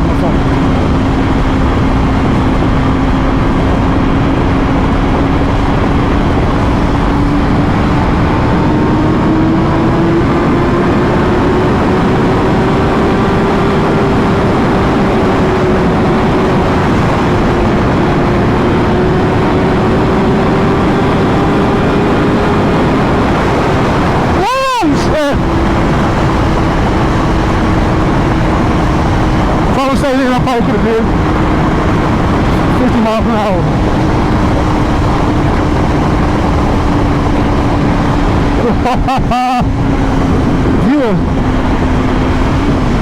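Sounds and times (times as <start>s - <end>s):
motorcycle engine: 0.0s - 43.0s
wind rush over microphone: 0.0s - 43.0s.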